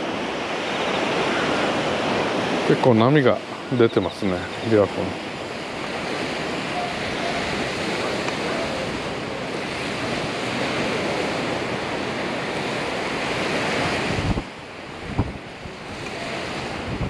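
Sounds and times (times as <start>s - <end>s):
waves washing onto sandy shore: 0.0s - 17.0s
wind over microphone: 0.0s - 17.0s.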